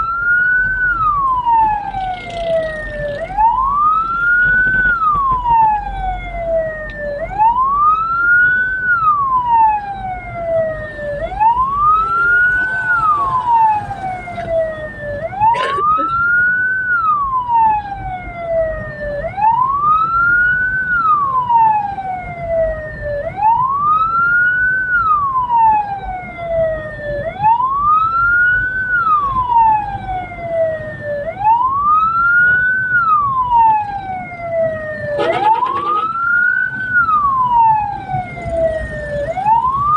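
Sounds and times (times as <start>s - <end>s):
siren wailing: 0.0s - 39.9s
vehicle rumble: 0.0s - 39.9s.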